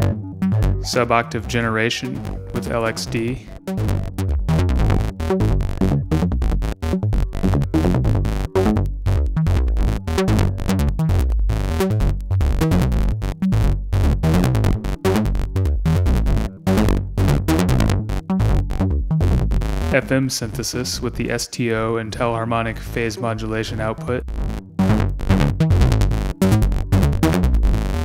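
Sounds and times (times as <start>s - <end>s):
synthesizer bass line: 0.0s - 28.0s.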